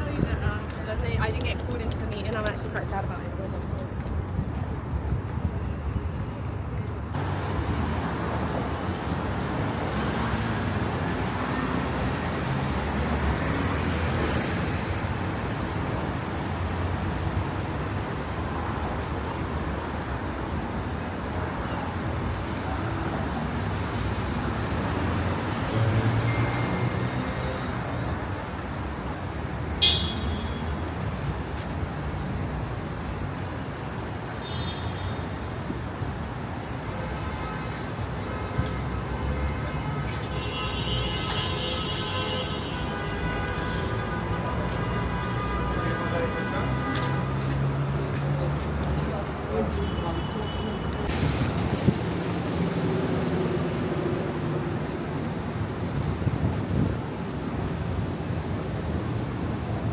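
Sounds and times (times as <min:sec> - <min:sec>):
cars passing: 0:00.0 - 0:34.5, 0:37.7 - 0:59.9
street and traffic noise: 0:00.0 - 0:59.9.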